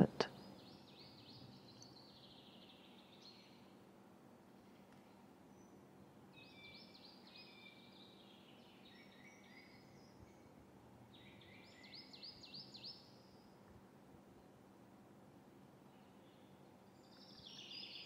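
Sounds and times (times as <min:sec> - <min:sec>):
faint birdsong chirping: 0:00.0 - 0:18.0.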